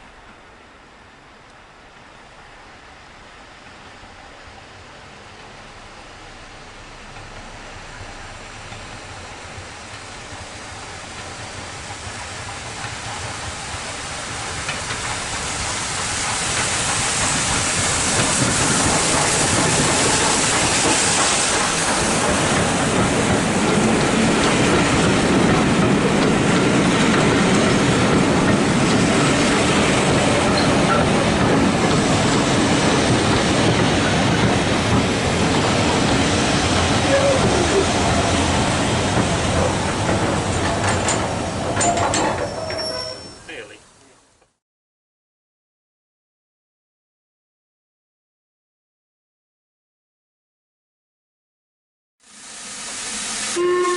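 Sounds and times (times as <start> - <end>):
train wheels rumbling on rails: 0.0 - 43.8.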